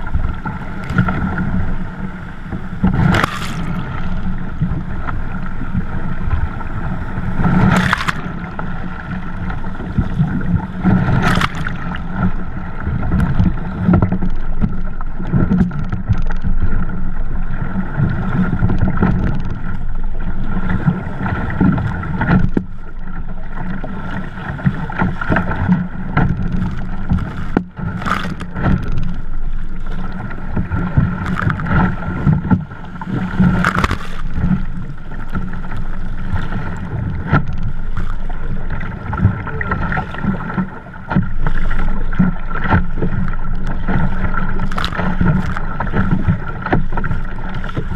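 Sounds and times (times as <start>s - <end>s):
ocean surf breaking: 0.0s - 47.9s
water splashing against a kayak: 0.0s - 47.9s.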